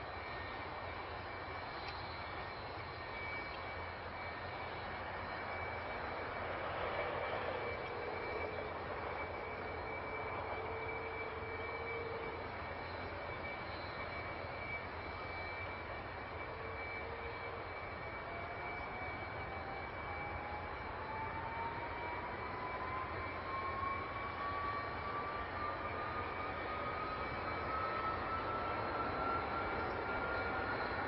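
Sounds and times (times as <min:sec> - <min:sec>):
jet engine rush with whine: 0:00.0 - 0:31.0.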